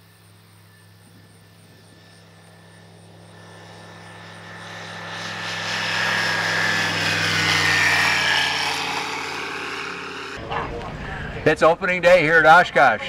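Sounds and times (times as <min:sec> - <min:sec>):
propeller airplane taking off: 0:00.0 - 0:13.0.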